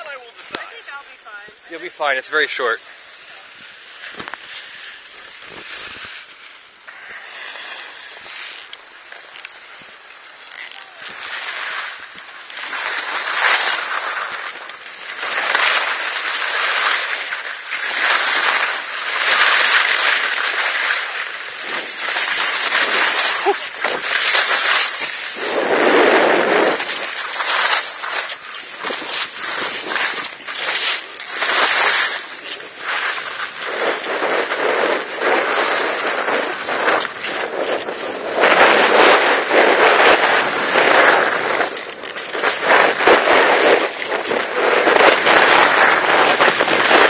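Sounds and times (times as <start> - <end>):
skis scraping over snow: 0.0 - 47.0.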